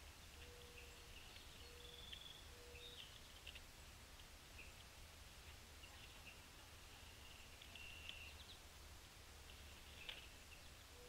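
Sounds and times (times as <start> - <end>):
faint birds calling: 0.0 - 8.8, 9.4 - 11.0.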